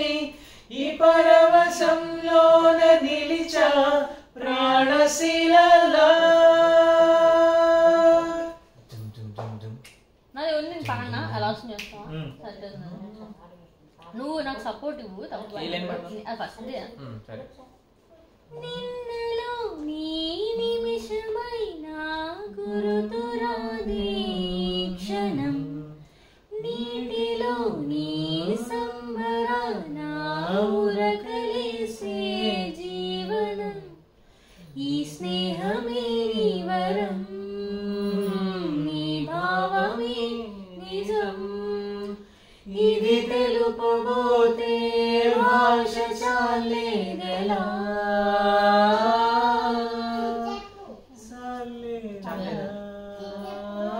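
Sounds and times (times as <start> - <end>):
woman and children singing: 0.0 - 8.6, 18.5 - 34.0, 34.7 - 53.9.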